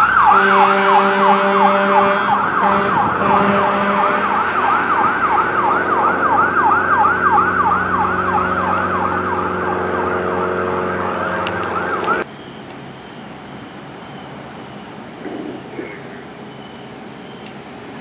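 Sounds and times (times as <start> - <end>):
fire engine siren yelping: 0.0 - 14.9
low steady siren tone: 0.0 - 14.9.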